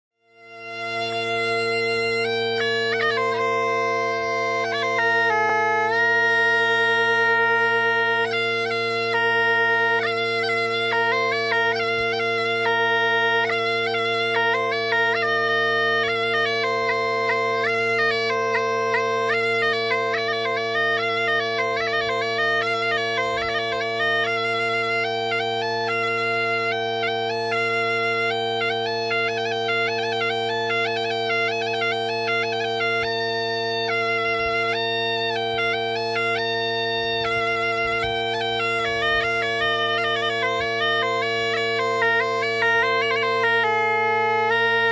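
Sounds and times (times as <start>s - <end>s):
bagpipe playing a tune: 0.2s - 44.9s.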